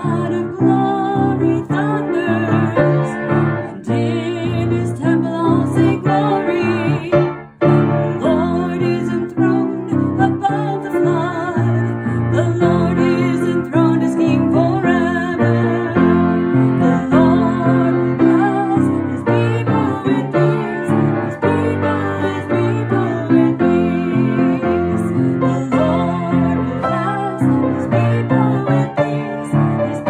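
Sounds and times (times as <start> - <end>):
piano playing: 0.0 - 30.0.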